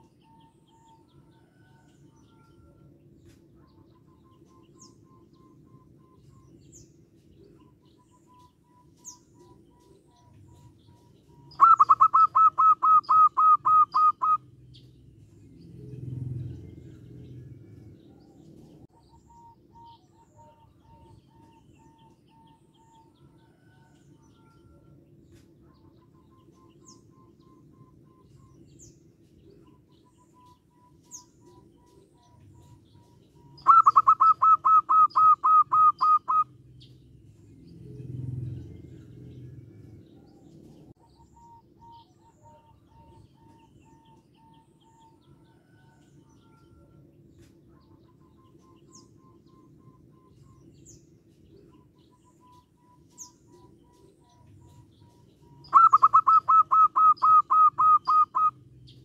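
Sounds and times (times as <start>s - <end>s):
doves calling: 0.0s - 59.0s.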